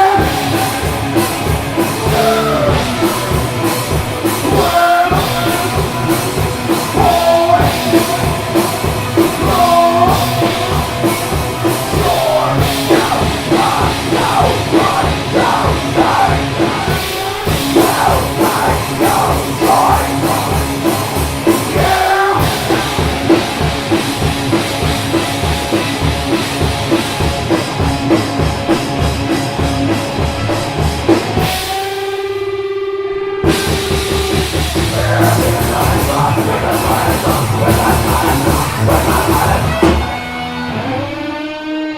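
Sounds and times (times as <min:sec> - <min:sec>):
steady drum beat: 0:00.0 - 0:32.1, 0:33.4 - 0:40.4
rock band playing: 0:00.0 - 0:41.9.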